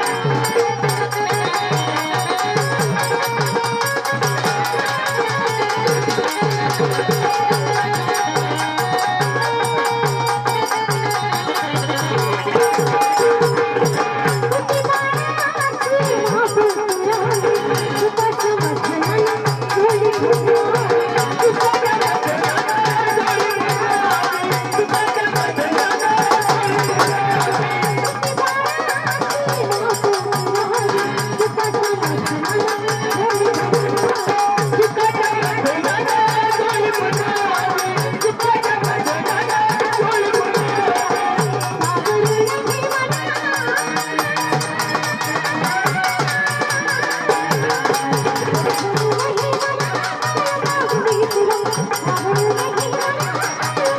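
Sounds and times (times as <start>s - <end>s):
fast percussion beat: 0.0s - 53.9s
person singing folk music: 0.0s - 53.9s.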